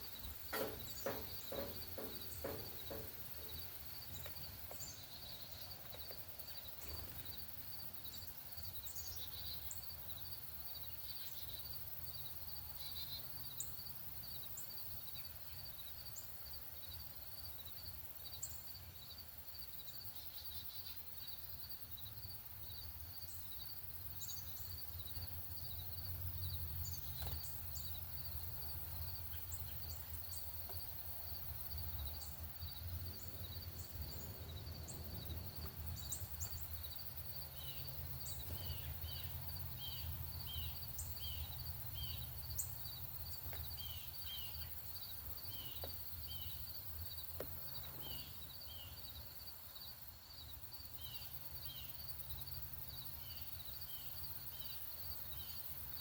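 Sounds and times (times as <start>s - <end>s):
high pulsed insect call: 0.0s - 56.0s
small birds chirping: 0.0s - 56.0s.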